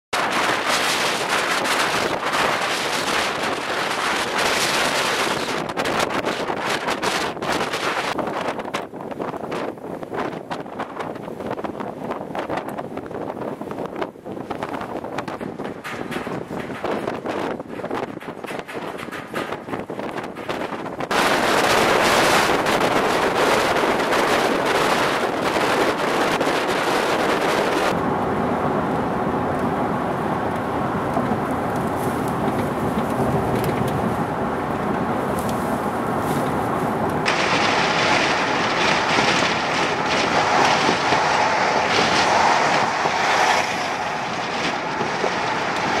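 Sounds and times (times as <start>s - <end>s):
strong wind buffeting microphone: 0.1s - 46.0s.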